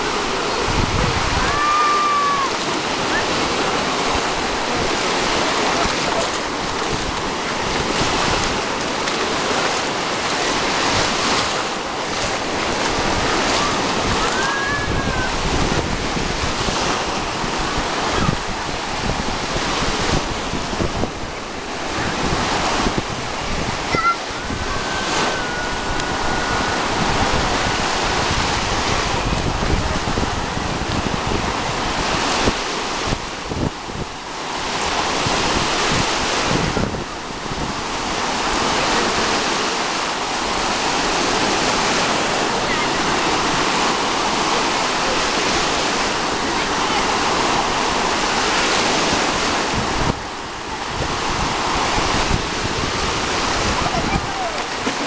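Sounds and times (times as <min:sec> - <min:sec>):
surf breaking over shallows: 0:00.0 - 0:55.0
wind buffeting microphone: 0:00.0 - 0:55.0.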